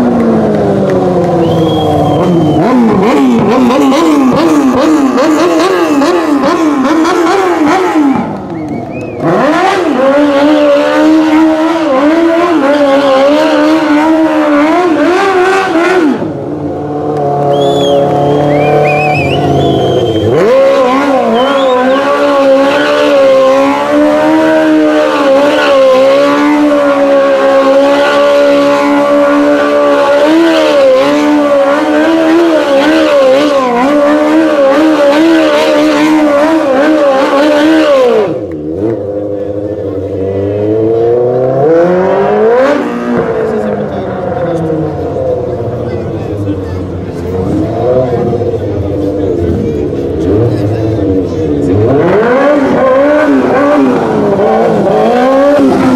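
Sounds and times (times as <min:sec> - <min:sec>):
quad engine revving high: 0:00.0 - 0:55.9.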